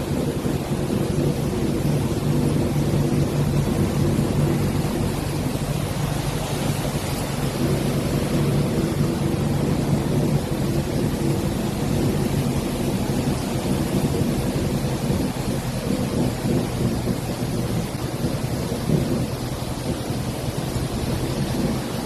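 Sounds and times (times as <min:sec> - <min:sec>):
loud steady rushing noise: 0:00.0 - 0:22.0
truck engine humming: 0:00.0 - 0:22.0.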